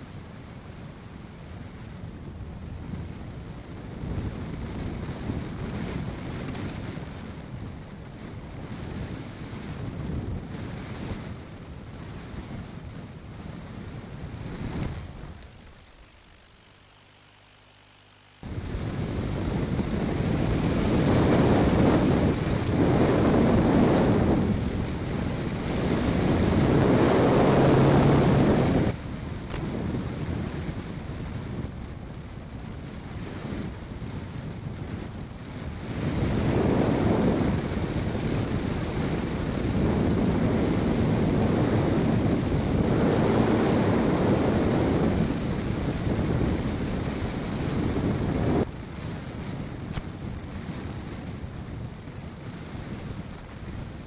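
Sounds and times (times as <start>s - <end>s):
wind rushing over microphone: 0.0s - 17.0s, 18.3s - 54.0s
steady high whine: 0.0s - 54.0s.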